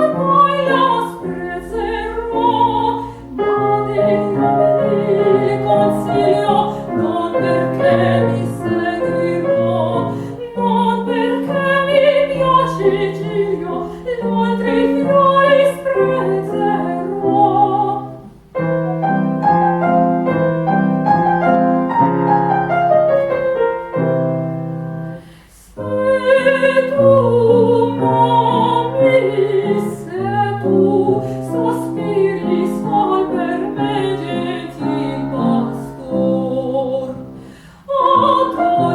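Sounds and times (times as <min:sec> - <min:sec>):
woman singing classical music: 0:00.0 - 0:19.7, 0:25.1 - 0:38.9
grand piano accompaniment: 0:00.0 - 0:38.9.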